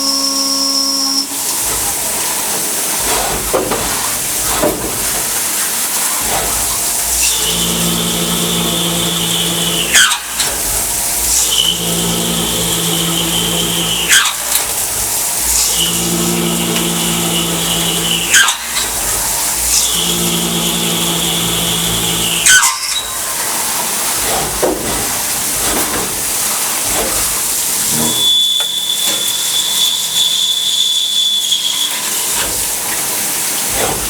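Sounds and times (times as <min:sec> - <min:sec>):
milling machine whine and hum: 0:00.0 - 0:34.0.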